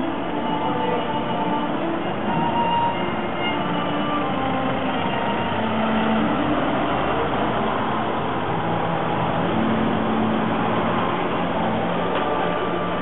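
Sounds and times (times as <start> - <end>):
diesel truck engine driving past: 0.0 - 13.0.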